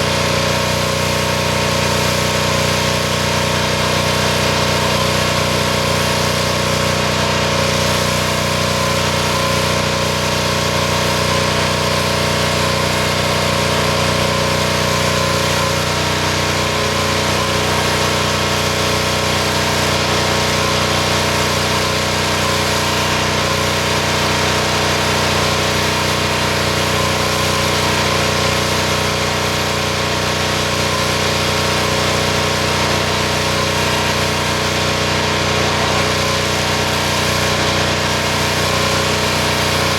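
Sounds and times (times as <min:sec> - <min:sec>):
pressure washer engine running: 0:00.0 - 0:39.9
water jet hissing: 0:00.0 - 0:39.9.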